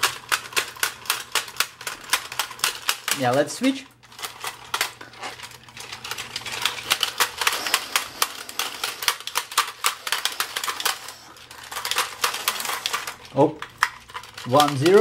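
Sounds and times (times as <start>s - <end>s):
plastic toy clicking and clacking: 0.0s - 15.0s.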